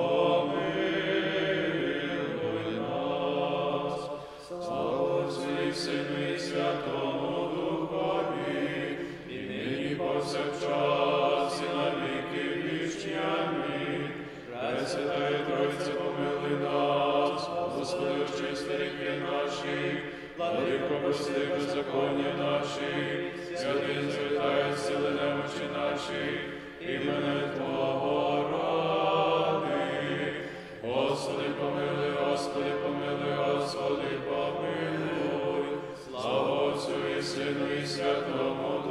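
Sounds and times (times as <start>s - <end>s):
men singing chant a cappella: 0.0s - 38.9s.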